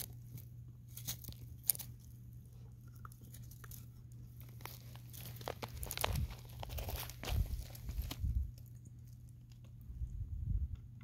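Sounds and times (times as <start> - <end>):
dog chewing on a stick: 0.0 - 9.8.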